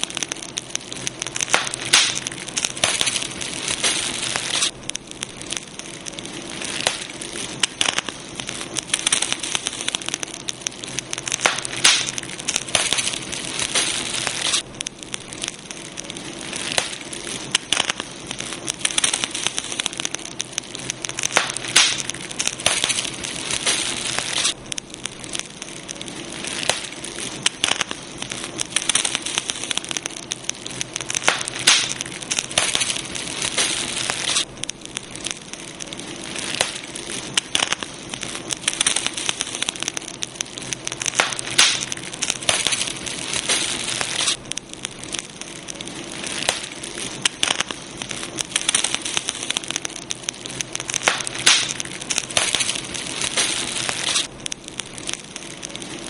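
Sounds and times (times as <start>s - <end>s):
campfire crackling and popping: 0.0s - 56.0s
steady hiss of fire: 0.0s - 56.0s.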